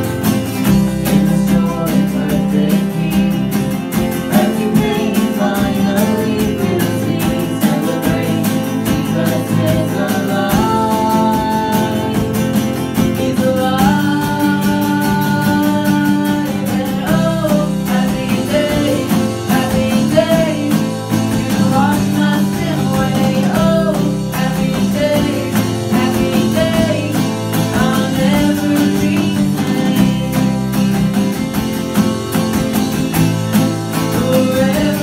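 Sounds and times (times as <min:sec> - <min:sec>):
bass guitar: 0:00.0 - 0:35.0
drum kit beat: 0:00.0 - 0:35.0
strummed acoustic guitars: 0:00.0 - 0:35.0
man and woman singing: 0:00.7 - 0:31.3, 0:33.9 - 0:35.0.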